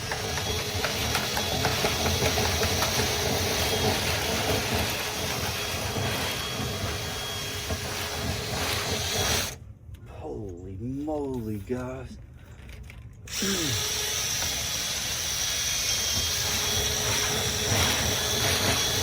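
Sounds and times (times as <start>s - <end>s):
electric motor running: 0.0s - 9.6s, 13.3s - 19.0s.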